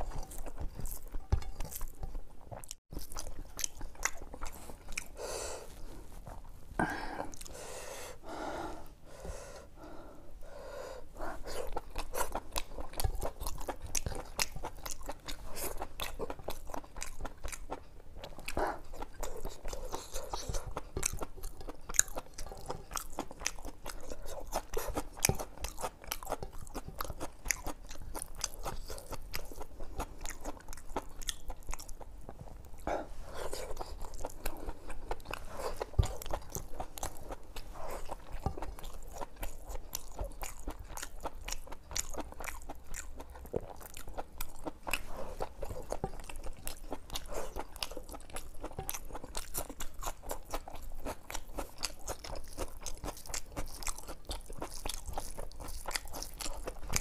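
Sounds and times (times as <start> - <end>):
wet chewing mouth clicks: 11.4 - 57.0.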